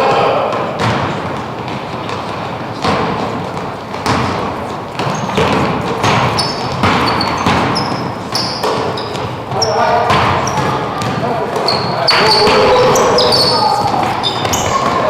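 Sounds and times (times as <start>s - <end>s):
basketball bouncing on hard court: 0.4s - 15.0s.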